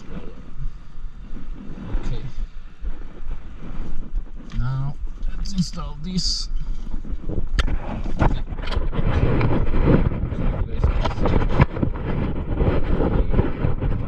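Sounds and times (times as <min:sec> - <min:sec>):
loud rumbling rustling noise: 0:00.0 - 0:14.0.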